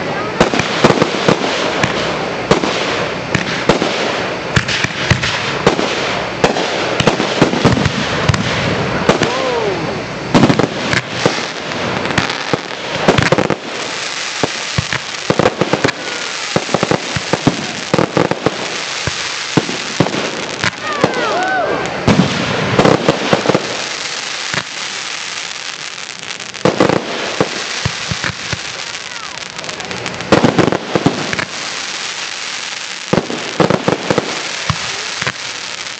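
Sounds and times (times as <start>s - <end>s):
fireworks bangs and crackling pops: 0.0s - 35.9s.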